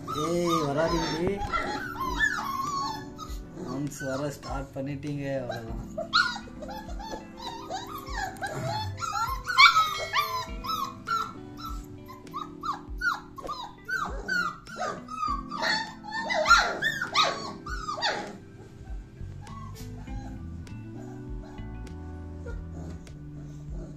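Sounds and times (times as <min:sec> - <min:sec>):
puppies yelping and whining: 0:00.0 - 0:04.7, 0:05.4 - 0:23.9
background music with low beat: 0:00.0 - 0:23.9.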